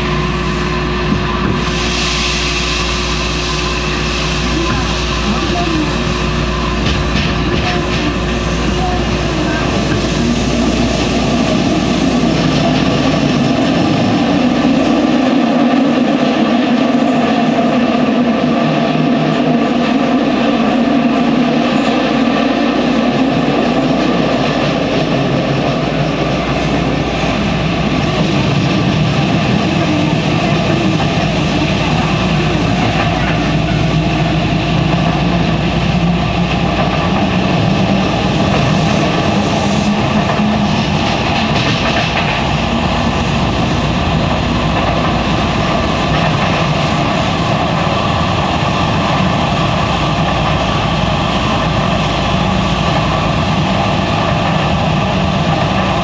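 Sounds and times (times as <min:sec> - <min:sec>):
subway train running in tunnel: 0:00.0 - 0:56.0.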